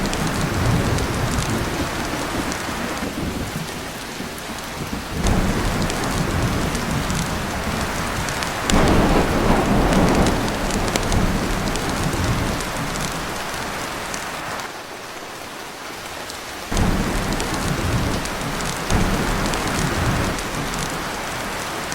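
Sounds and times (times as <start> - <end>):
thunder rumbling: 0.0 - 14.4, 16.7 - 21.9
heavy rain on a tin roof: 0.0 - 21.9.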